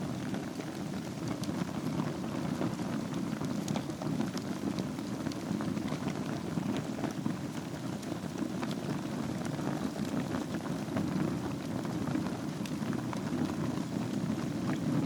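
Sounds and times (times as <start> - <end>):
fire crackling and popping: 0.0 - 15.0
wood fire burning: 0.0 - 15.0.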